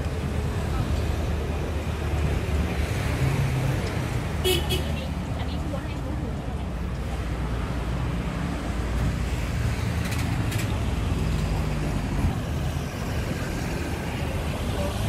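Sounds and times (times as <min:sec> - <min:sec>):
scooters and cars passing: 0:00.0 - 0:15.0.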